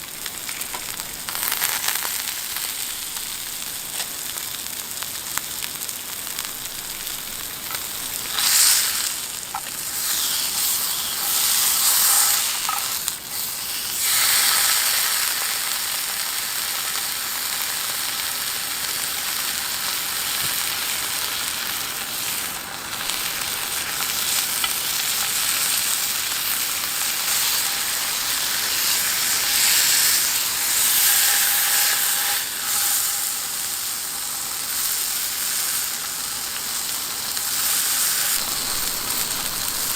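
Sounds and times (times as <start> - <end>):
food sizzling in a hot pan: 0.0 - 39.9.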